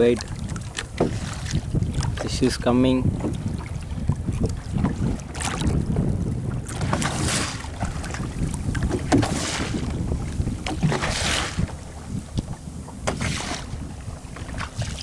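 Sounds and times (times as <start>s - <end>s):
waves splashing against boat: 0.0s - 15.0s
wind buffeting microphone: 0.0s - 15.0s.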